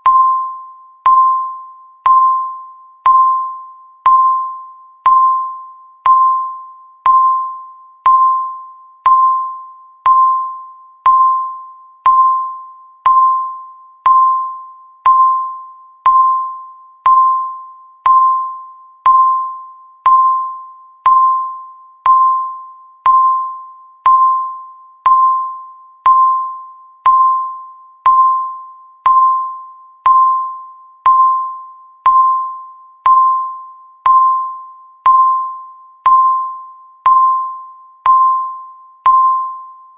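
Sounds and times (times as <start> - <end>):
timer ticking dings: 0.0 - 39.8.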